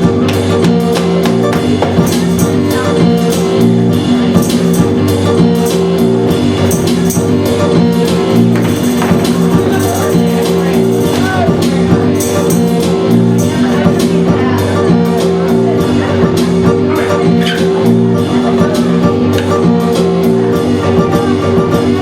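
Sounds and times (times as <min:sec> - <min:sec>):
guitar and bass chords: 0:00.0 - 0:22.0
steady drum beat: 0:00.0 - 0:22.0.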